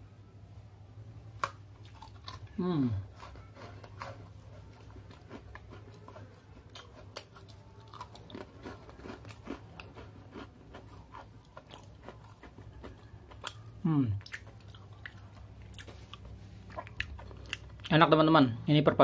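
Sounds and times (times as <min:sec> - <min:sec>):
person chewing cookie: 0:01.3 - 0:18.0.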